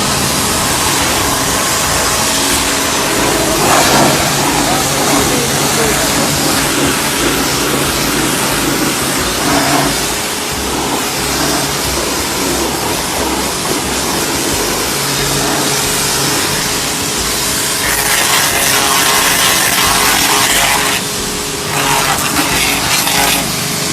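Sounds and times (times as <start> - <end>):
electric motor humming: 0.0 - 23.9
high-pressure water jet hissing: 0.0 - 23.9.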